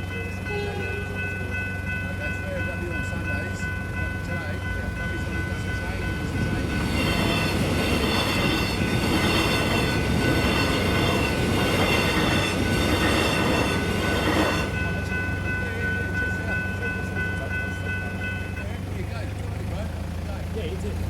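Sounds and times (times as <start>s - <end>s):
train wheels on rails: 0.0s - 19.3s
crossing bells ringing: 0.0s - 19.4s.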